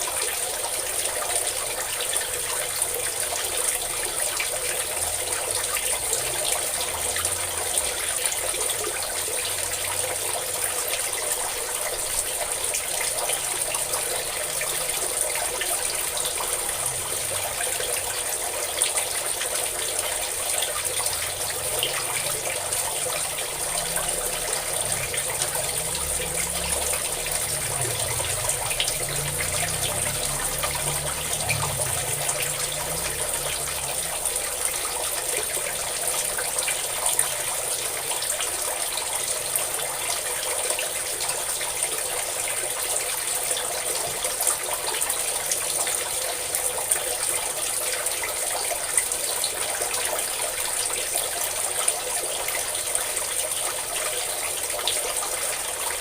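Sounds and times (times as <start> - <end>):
water pouring onto water: 0.0 - 56.0.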